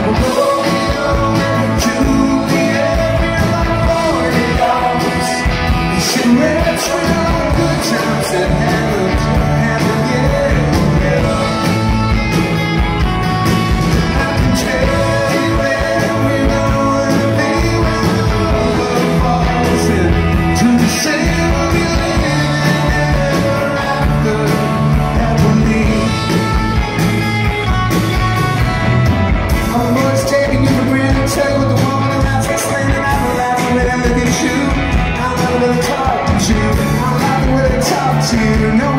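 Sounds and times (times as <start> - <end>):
man singing lead vocal: 0.0 - 12.6, 13.8 - 26.8, 29.6 - 38.9
drums: 0.0 - 38.9
electric guitars: 0.0 - 38.9
keyboard: 0.0 - 38.9.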